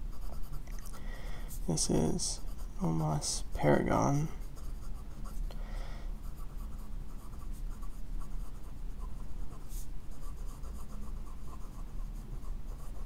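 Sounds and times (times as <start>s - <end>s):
pen scratching on paper: 0.0s - 0.9s, 1.5s - 5.4s, 6.2s - 13.0s.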